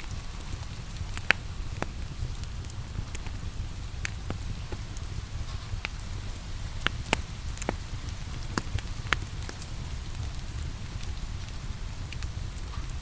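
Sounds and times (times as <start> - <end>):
rain hissing: 0.0 - 13.0
wood fire crackling and popping: 0.0 - 13.0.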